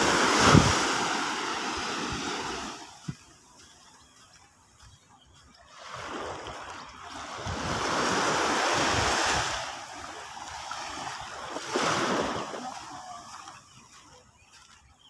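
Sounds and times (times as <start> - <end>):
waves breaking on a beach: 0.0 - 15.0.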